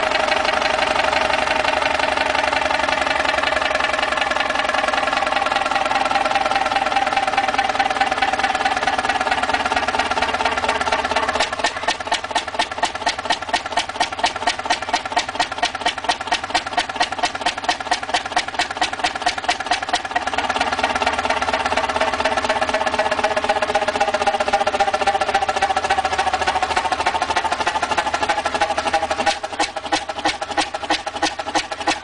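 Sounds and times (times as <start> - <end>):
stationary engine running: 0.0 - 32.0.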